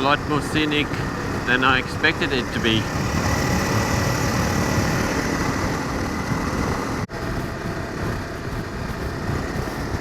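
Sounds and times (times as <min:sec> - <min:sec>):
loud wind noise: 0:00.0 - 0:10.0
motorcycle engine running: 0:00.0 - 0:10.0.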